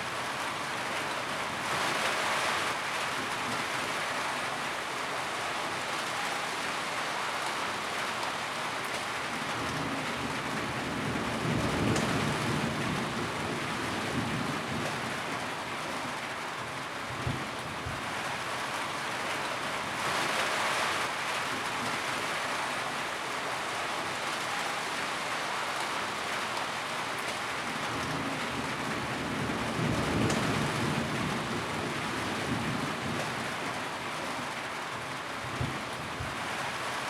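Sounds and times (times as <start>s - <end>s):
rain drumming on a tin roof: 0.0s - 37.0s.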